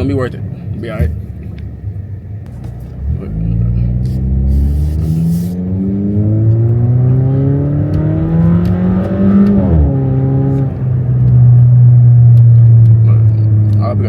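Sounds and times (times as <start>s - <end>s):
car engine accelerating: 2.5s - 14.0s.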